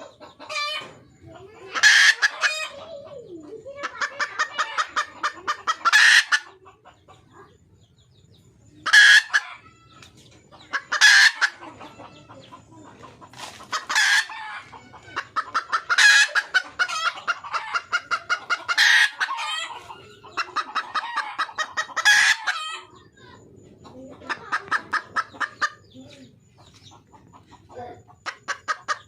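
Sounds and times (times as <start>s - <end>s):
hen clucking: 0.0s - 29.0s.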